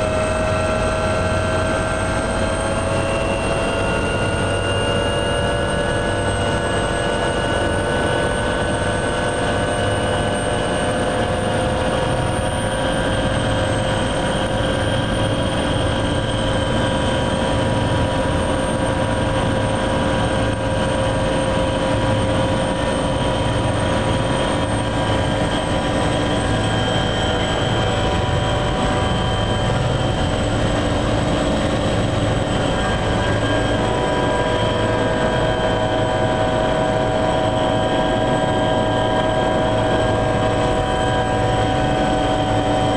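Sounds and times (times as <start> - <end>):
helicopter engine and rotor running: 0.0 - 42.9.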